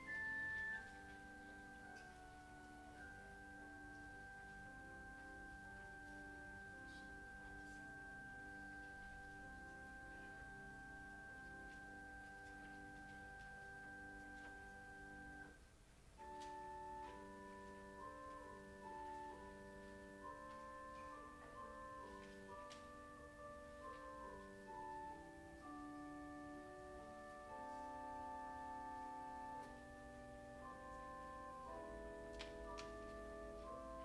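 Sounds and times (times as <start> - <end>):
slow instrumental keyboard music: 0.0 - 34.0.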